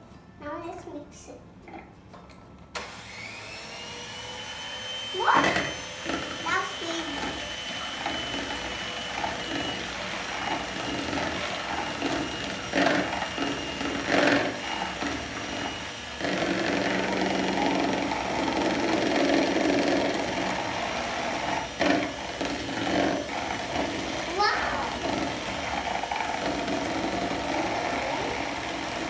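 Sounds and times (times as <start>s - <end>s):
electric hand mixer whirring: 2.7s - 29.0s.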